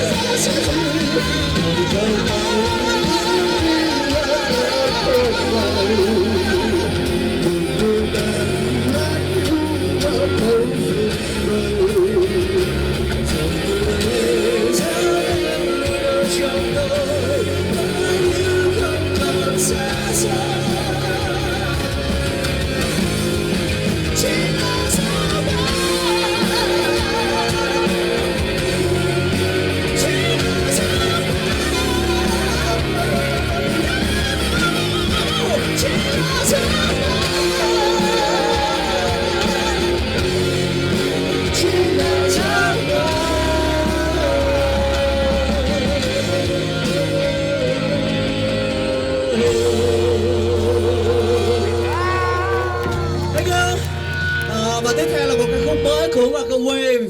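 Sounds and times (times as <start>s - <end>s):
electric guitar: 0.0s - 57.0s
live rock band playing: 0.0s - 57.0s
person singing: 0.0s - 57.0s.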